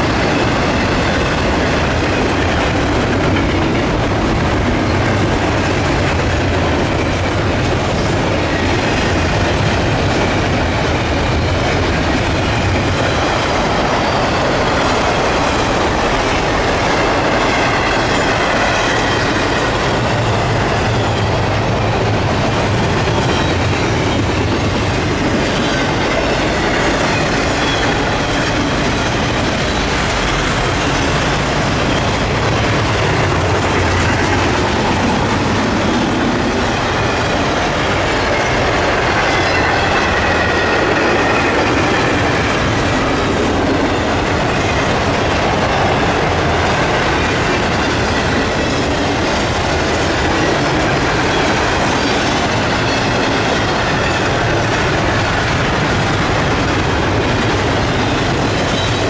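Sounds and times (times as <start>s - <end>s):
train rumbling past: 0.0s - 59.0s
wheels clacking over rail joints: 0.0s - 59.0s.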